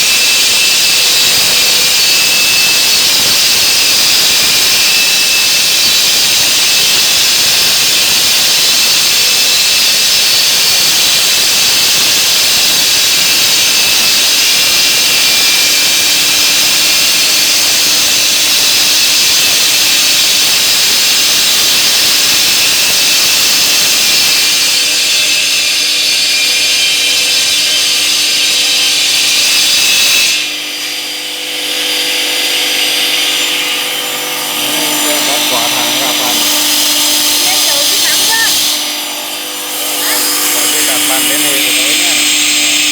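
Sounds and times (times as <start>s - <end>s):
stone-cutting saw grinding: 0.0s - 42.9s.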